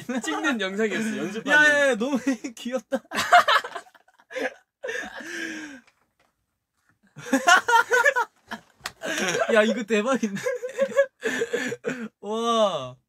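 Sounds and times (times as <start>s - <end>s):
young men laughing: 0.0s - 5.8s, 7.1s - 12.1s.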